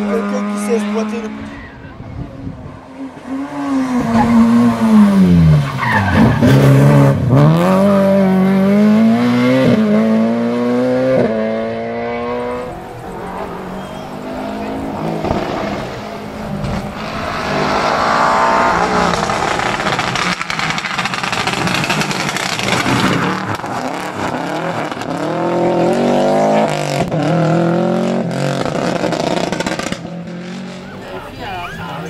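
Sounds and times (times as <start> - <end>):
rally car engine revving: 0.0 - 31.4.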